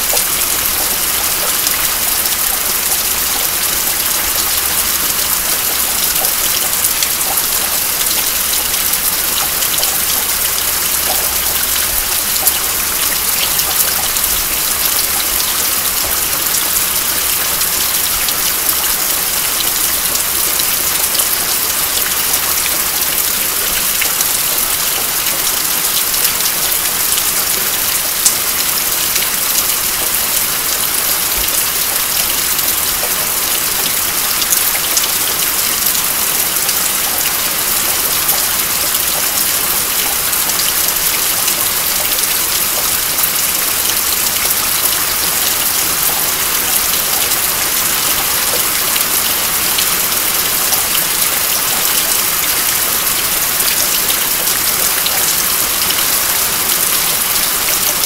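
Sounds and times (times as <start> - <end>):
steady rain hiss: 0.0 - 58.0
water dripping off roof: 0.0 - 58.0.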